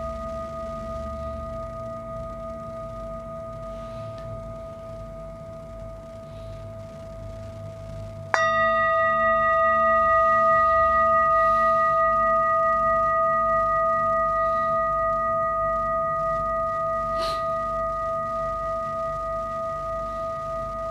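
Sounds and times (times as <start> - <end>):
metal singing bowl ringing: 0.0 - 20.9.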